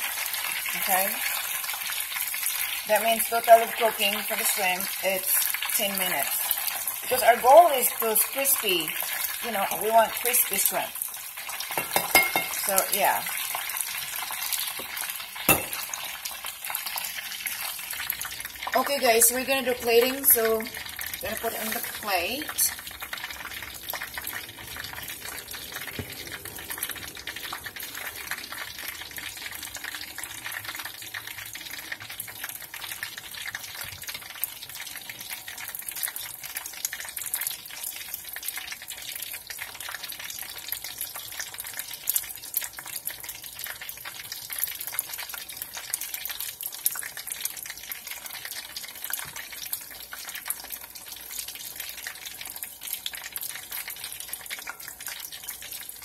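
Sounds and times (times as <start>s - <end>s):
shrimp deep-frying in oil: 0.0s - 56.0s.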